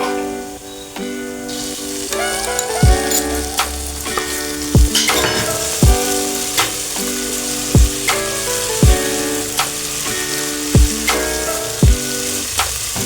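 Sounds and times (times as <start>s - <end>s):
food sizzling in a pan: 0.0s - 13.0s
background music with drum beat: 1.0s - 13.0s.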